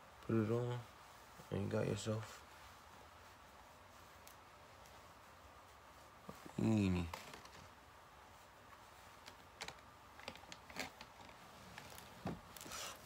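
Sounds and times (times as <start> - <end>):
soft clicks and fabric rustles: 0.1 - 13.0.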